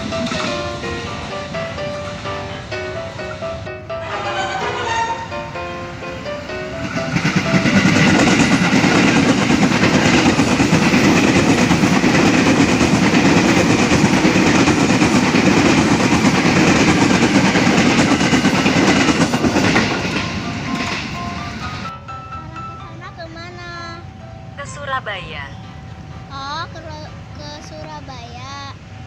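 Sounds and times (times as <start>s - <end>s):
rapid wheel clatter on rails: 0.0s - 5.6s, 6.4s - 21.9s, 25.6s - 29.0s
train passing at speed: 0.0s - 29.0s.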